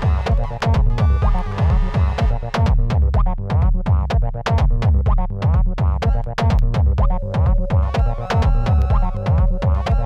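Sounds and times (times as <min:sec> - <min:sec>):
acid bass line: 0:00.0 - 0:10.0
drum machine kicks: 0:00.0 - 0:10.0.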